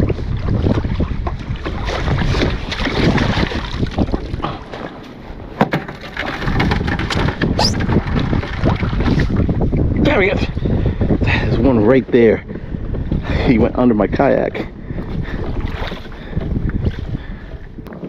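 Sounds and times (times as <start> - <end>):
water splashing against kayak: 0.0 - 13.5, 14.5 - 18.0
wind buffeting microphone: 0.0 - 18.0.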